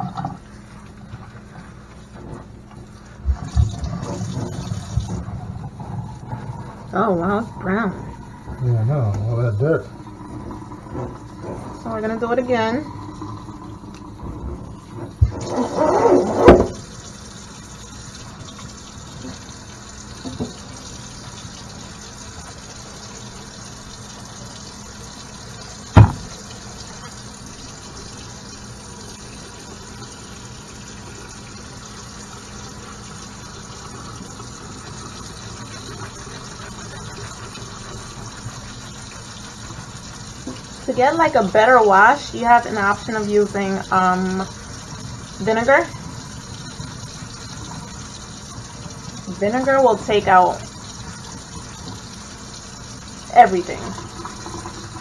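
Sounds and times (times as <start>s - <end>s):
faucet running into steel sink: 0.0s - 55.0s.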